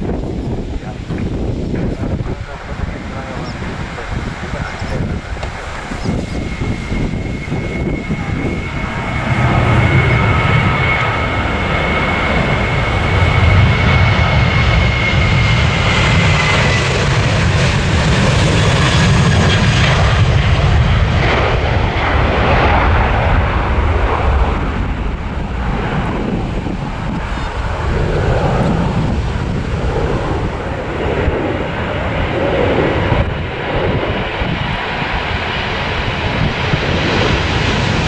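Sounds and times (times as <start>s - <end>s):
jet taking off: 0.0s - 38.0s.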